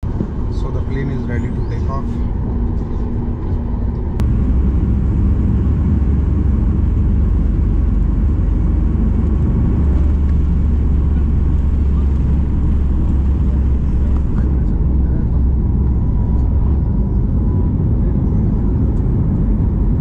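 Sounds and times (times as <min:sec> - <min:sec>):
jet airliner cabin rumble: 0:00.0 - 0:20.0.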